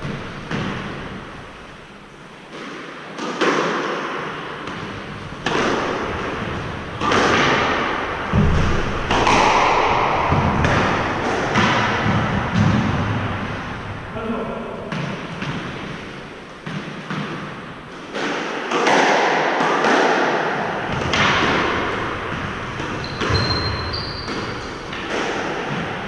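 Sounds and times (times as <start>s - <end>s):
racquets striking squash ball: 0.0s - 26.0s.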